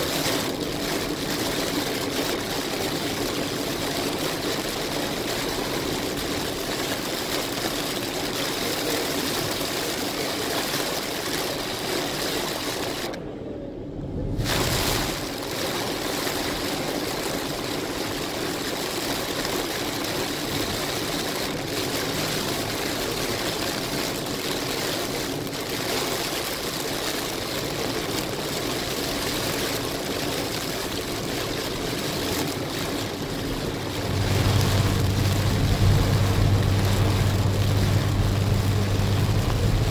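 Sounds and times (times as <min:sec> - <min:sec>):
tyres hissing on wet road: 0:00.0 - 0:13.2, 0:14.3 - 0:39.9
heavy rain on car roof: 0:00.0 - 0:13.3, 0:14.2 - 0:39.9.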